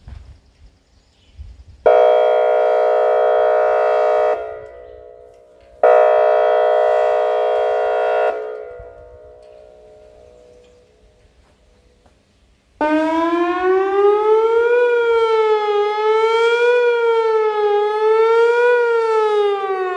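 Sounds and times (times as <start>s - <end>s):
warning siren blasts: 1.8s - 11.8s, 12.8s - 19.9s.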